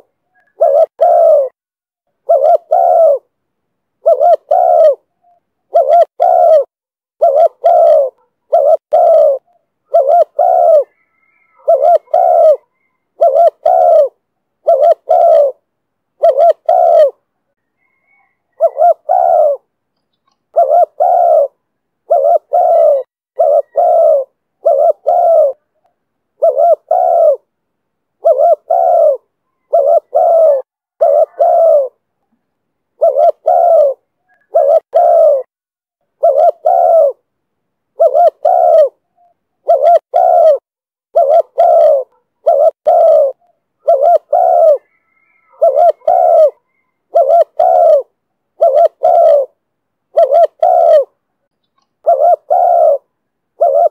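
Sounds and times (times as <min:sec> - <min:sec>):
dove cooing: 0:00.0 - 0:01.6, 0:02.2 - 0:03.3, 0:04.0 - 0:27.5, 0:28.2 - 0:32.1, 0:33.0 - 0:35.5, 0:36.1 - 0:37.3, 0:37.9 - 0:53.9.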